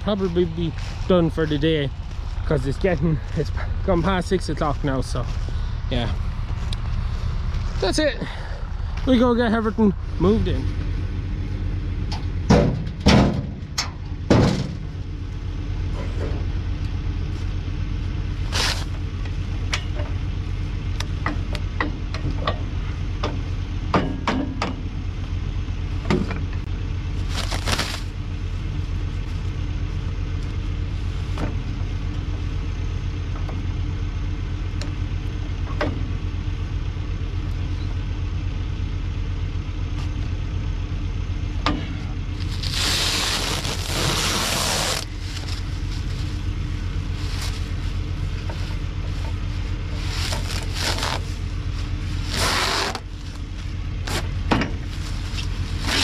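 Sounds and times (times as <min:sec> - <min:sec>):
farm vehicle engine running: 0:00.0 - 0:56.0.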